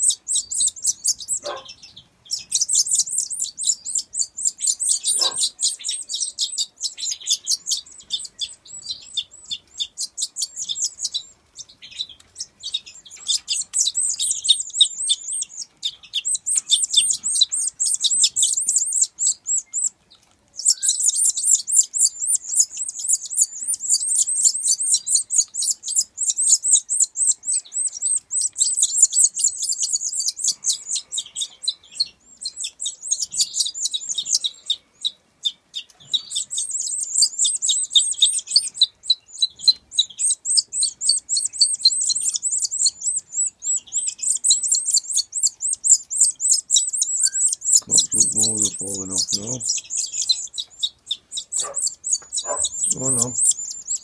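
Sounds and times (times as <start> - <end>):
young bird begging chirps: 0.0 - 20.0, 20.6 - 54.0.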